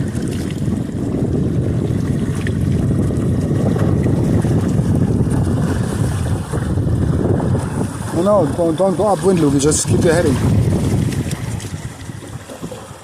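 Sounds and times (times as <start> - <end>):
water moving past hull: 0.0 - 13.0
wind buffeting microphone: 0.0 - 13.0.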